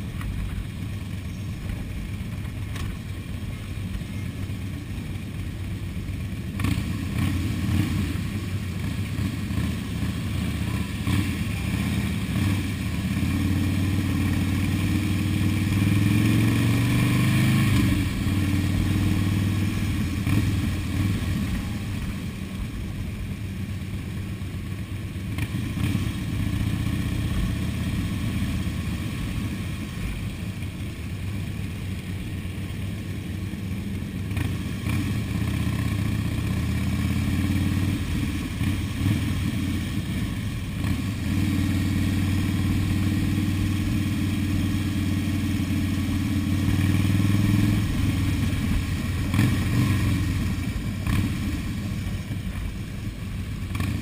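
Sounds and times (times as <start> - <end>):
motorcycle engines running: 0.0 - 54.0.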